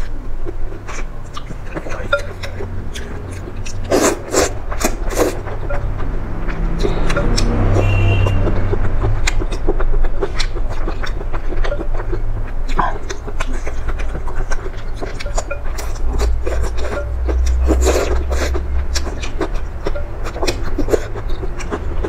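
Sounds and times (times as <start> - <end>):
low steady hum: 0.0 - 22.0
person chewing with wet mouth clicks: 0.0 - 22.0.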